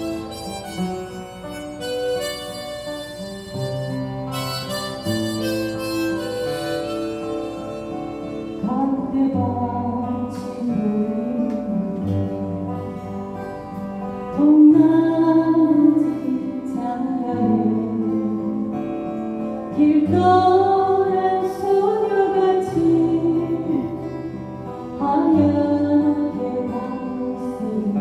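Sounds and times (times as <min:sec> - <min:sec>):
acoustic guitar: 0:00.0 - 0:28.0.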